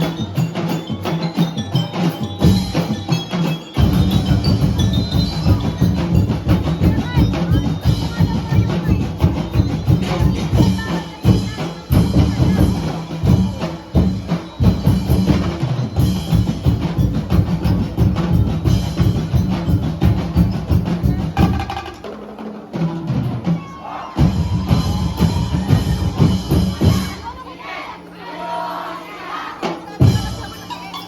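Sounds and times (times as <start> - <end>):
drum-heavy dance music: 2.4 - 22.0, 23.0 - 27.8, 29.6 - 30.7.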